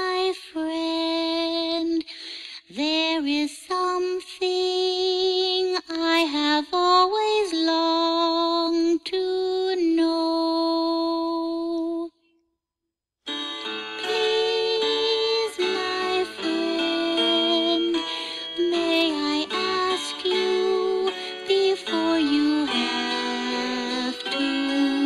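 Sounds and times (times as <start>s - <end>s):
woman singing slow melody: 0.0s - 12.2s, 14.0s - 25.0s.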